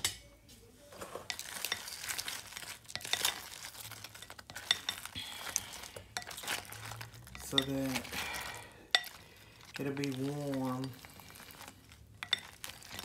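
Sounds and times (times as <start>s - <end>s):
utensil scraping glass bowl: 1.3s - 13.0s
wet sticky sauce sounds: 1.3s - 13.0s.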